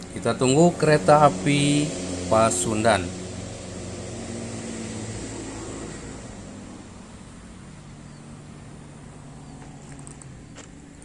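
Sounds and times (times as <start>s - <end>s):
distant engine hum: 0.0s - 11.0s
outdoor noise: 0.0s - 11.0s.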